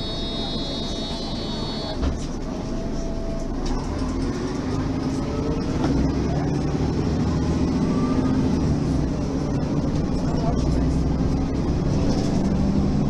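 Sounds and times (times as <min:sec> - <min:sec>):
bus accelerating: 0:00.0 - 0:13.0.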